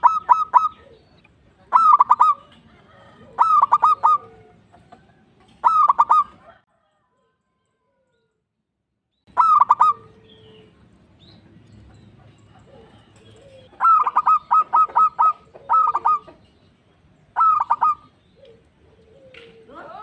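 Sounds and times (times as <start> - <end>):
dove cooing: 0.0 - 6.6, 9.3 - 20.0.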